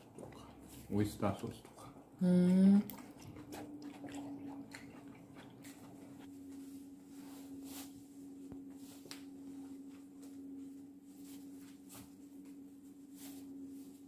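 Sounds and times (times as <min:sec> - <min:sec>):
low hum: 0:01.7 - 0:14.0.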